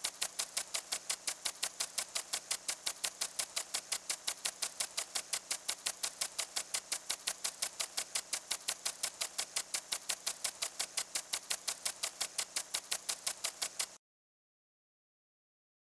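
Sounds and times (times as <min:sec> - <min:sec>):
impact sprinkler ticking: 0:00.0 - 0:14.0.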